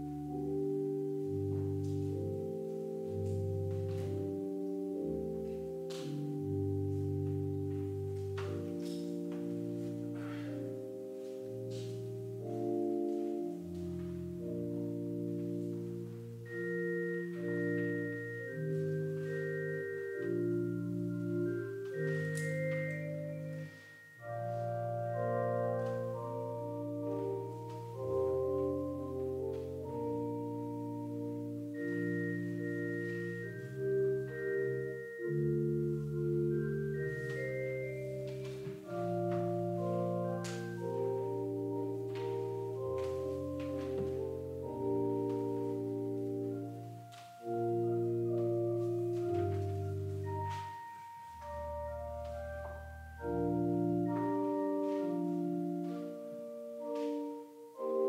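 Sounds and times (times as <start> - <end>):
slow instrumental music: 0.0 - 58.0.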